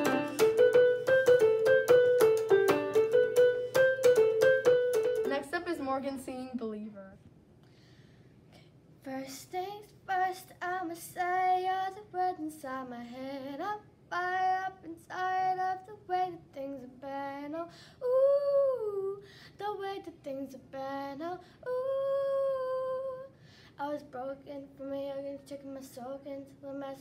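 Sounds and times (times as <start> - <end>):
girl singing unaccompanied: 0.0 - 4.2, 9.0 - 27.0.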